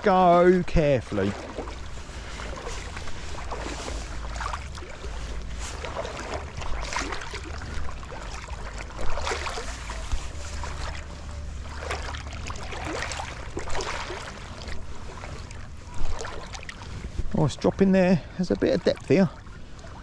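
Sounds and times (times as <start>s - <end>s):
water sloshing from wading: 0.0s - 20.0s.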